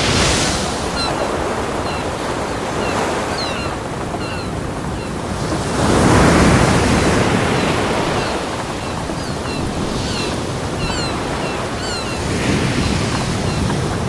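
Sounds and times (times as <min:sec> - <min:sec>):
ocean waves washing onto beach: 0:00.0 - 0:14.0.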